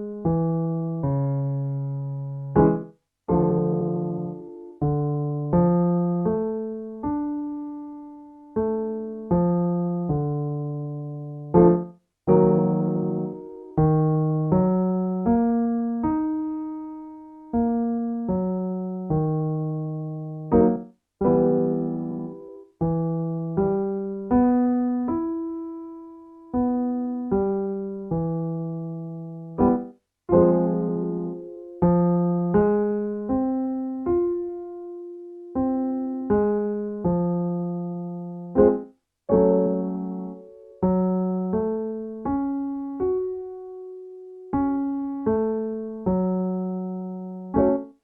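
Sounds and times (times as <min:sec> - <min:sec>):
piano playing: 0:00.0 - 0:48.0.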